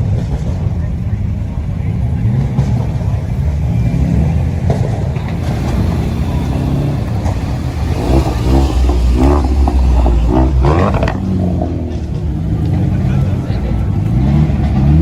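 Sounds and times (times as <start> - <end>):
car engine rumbling and revving: 0.0 - 15.0.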